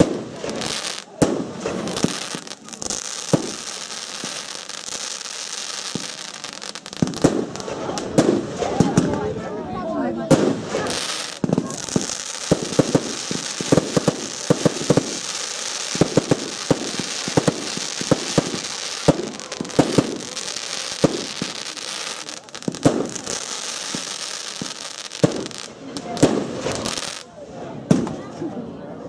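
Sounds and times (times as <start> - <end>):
steady hiss: 0.0 - 8.6, 10.5 - 27.2
fireworks bangs: 0.0 - 28.3.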